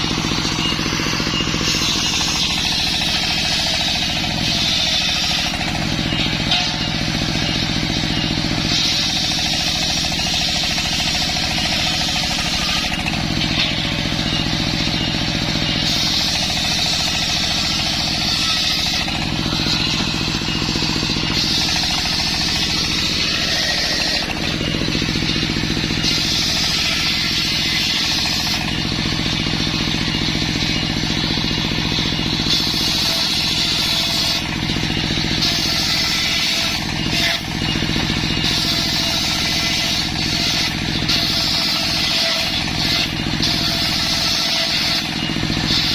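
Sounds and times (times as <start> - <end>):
circular saw cutting wood: 0.0 - 45.9.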